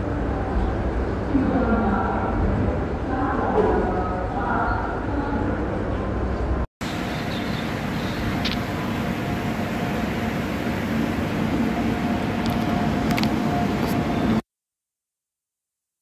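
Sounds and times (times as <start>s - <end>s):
electric locomotive rumbling: 0.0s - 14.4s.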